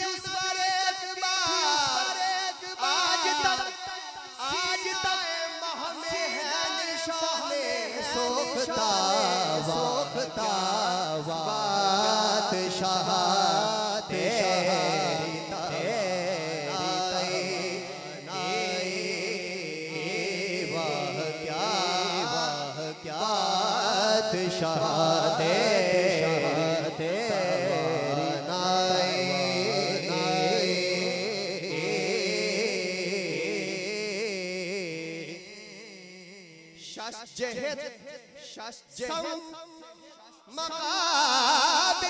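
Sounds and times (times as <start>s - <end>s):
man singing devotional chant: 0.0s - 42.0s.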